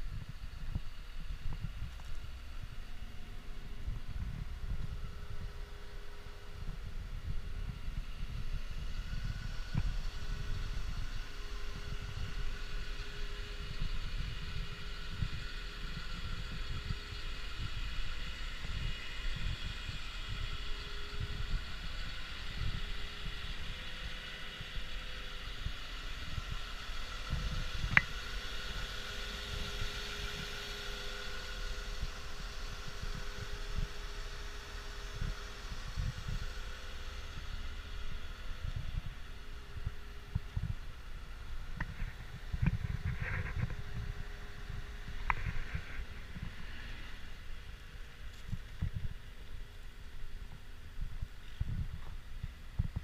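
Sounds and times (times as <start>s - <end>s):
wind buffeting microphone: 0.0s - 26.6s, 27.2s - 28.9s, 35.1s - 36.6s, 37.3s - 53.0s
engine fan running: 0.0s - 53.0s.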